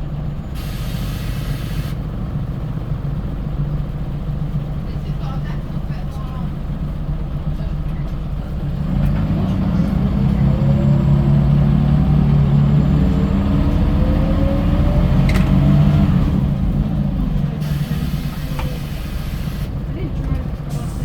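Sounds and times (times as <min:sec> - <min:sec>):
bus diesel engine accelerating: 0:00.0 - 0:21.0.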